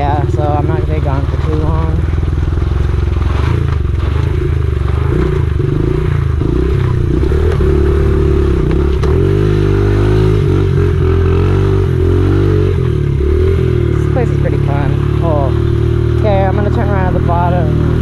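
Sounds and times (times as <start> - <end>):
pit bike engine revving: 0.0 - 18.0.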